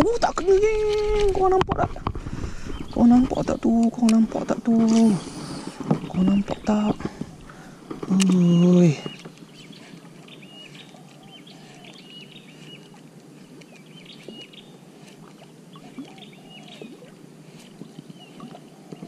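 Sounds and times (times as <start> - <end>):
water and wind hiss: 0.0 - 19.0.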